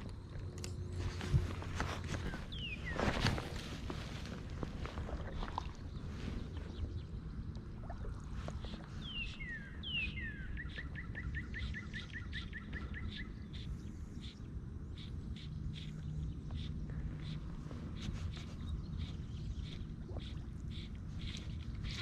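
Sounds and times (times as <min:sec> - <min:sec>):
songbird calling: 0:01.5 - 0:04.0, 0:04.8 - 0:22.0.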